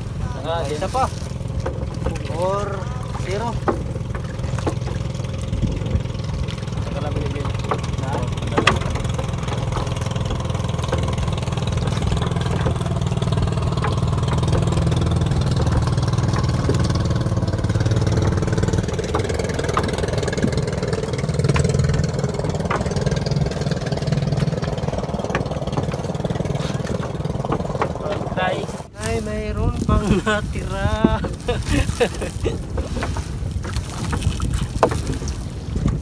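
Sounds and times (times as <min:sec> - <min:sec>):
boat engine idling: 0:00.0 - 0:36.0.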